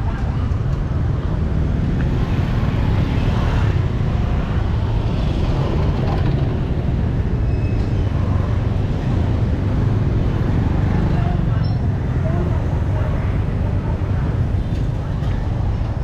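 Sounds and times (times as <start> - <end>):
busy street traffic rumble: 0.0 - 16.0.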